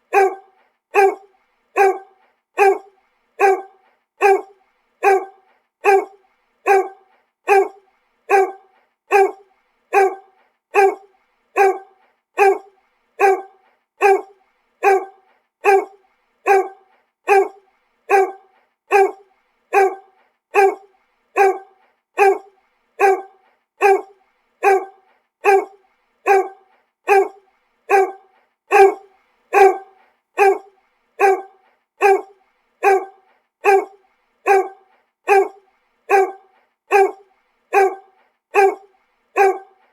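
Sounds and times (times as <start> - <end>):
dog barking: 0.1 - 39.9.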